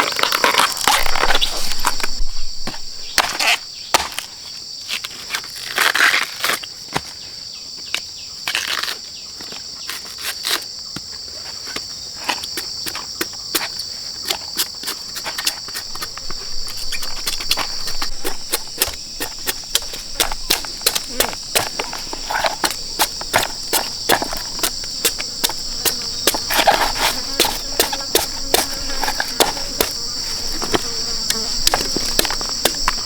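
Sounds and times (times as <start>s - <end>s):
high-pitched insect chorus: 0.0s - 5.5s, 6.1s - 33.0s.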